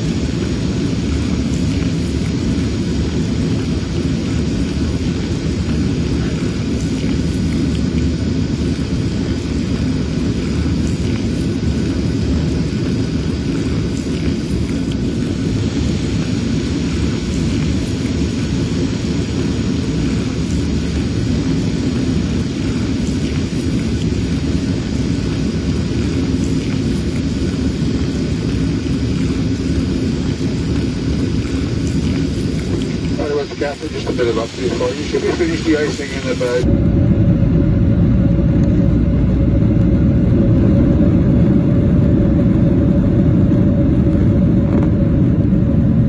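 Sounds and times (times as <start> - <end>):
faint high whine: 0.0 - 46.0
low engine rumble: 0.0 - 46.0.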